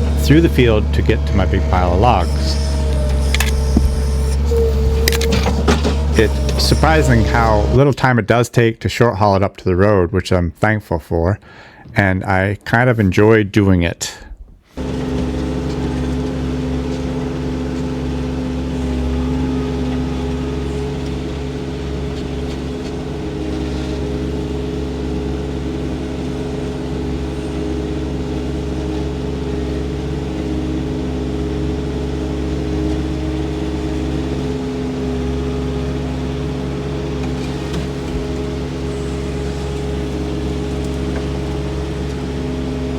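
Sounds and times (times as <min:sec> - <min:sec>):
engine running steadily: 0:00.0 - 0:07.8, 0:14.8 - 0:42.9.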